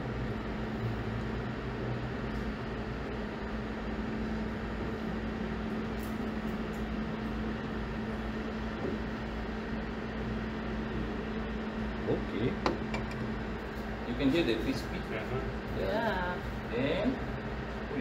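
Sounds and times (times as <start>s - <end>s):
kitchen equipment humming: 0.0s - 18.0s.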